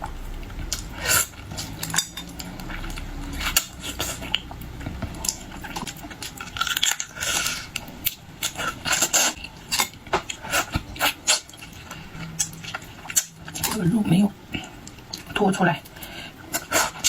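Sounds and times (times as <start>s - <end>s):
crackling bursts: 0.0s - 13.8s.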